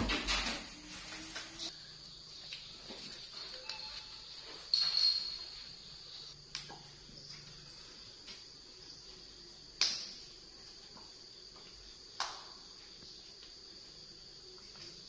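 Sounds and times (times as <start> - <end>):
insects chirring: 0.2 - 15.0.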